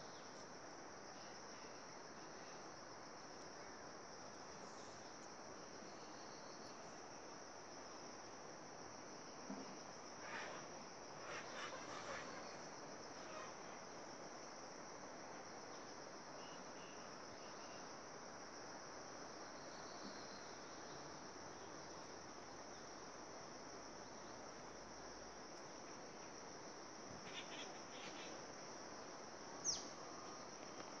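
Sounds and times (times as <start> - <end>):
insects chorus: 0.0 - 31.0.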